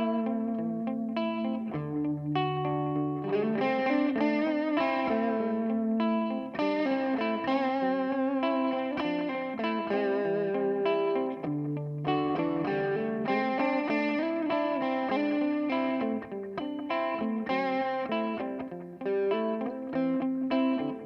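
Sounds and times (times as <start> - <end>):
electric guitar with delay: 0.0 - 21.0.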